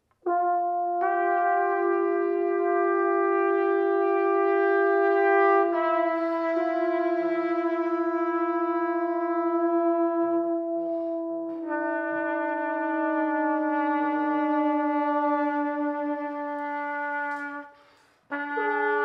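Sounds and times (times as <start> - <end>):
trombone sustained notes: 0.2 - 19.0
trumpet sustained notes: 0.2 - 19.0.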